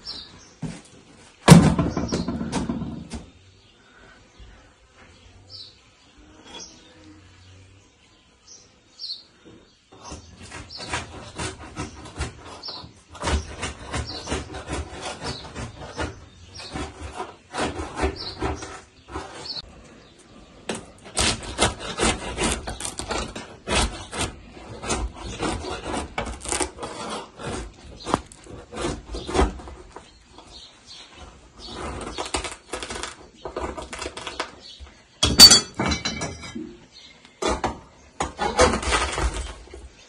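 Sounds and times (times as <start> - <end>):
hand scraping inside clay oven: 4.5 - 7.1, 9.4 - 36.8, 37.4 - 40.0.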